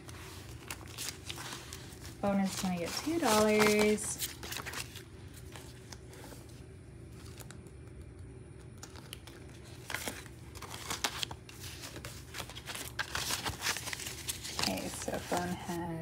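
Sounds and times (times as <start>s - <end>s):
banknotes rustling: 0.0s - 7.5s, 8.8s - 16.0s
faint low hum: 0.0s - 16.0s.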